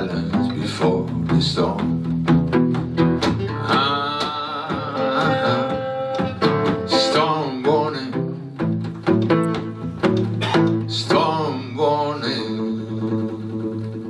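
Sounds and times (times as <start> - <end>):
double bass: 0.0 - 14.0
plucked acoustic guitar: 0.0 - 14.0.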